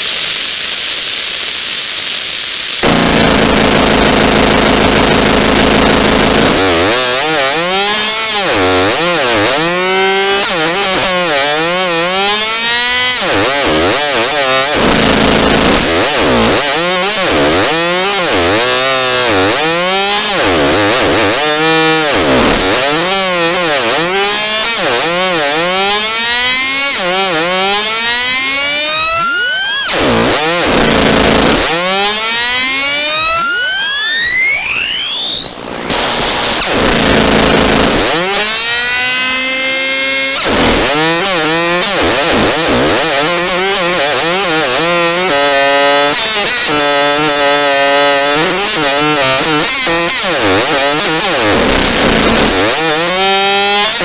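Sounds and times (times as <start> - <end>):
radio interference buzz: 2.7 - 54.0.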